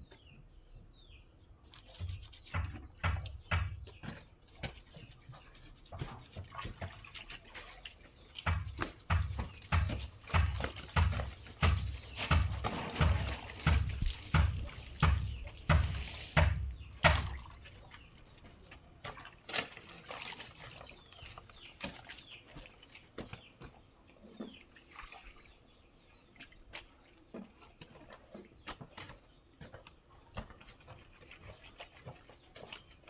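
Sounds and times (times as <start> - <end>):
water sloshing in basin: 1.7 - 33.0.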